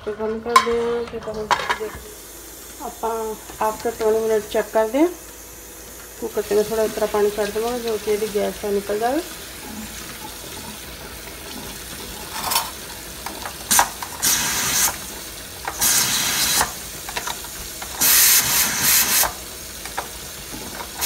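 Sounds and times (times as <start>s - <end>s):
steam hissing from vent: 2.0s - 21.0s.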